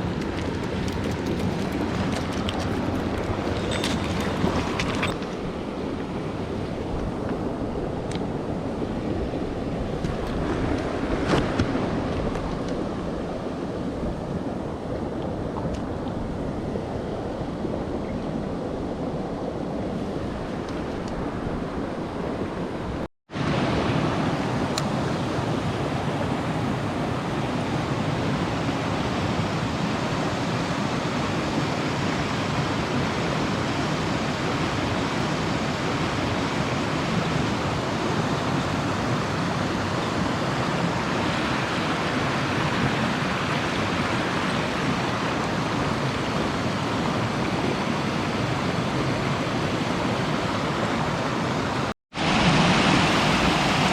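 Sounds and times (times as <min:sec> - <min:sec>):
stream water rushing: 0:00.0 - 0:15.5, 0:18.8 - 0:53.9.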